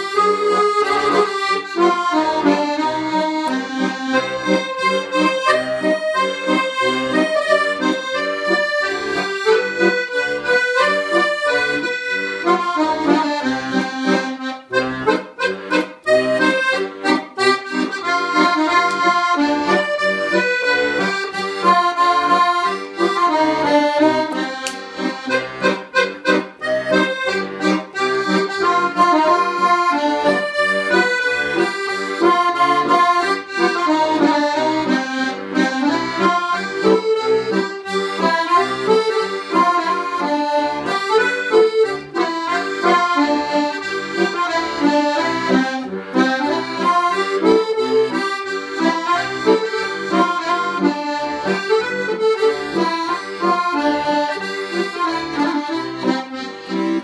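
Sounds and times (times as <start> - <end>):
piano accordion playing a tune: 0.0 - 57.0.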